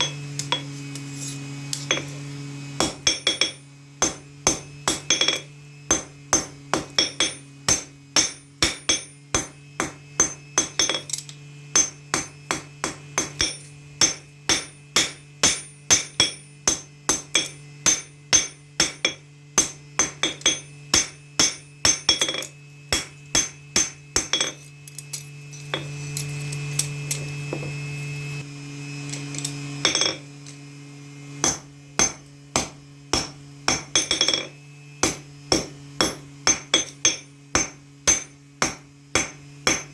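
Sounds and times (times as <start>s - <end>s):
hammer ringing on anvil: 0.0s - 2.1s, 2.8s - 25.9s, 29.8s - 30.3s, 31.4s - 39.9s.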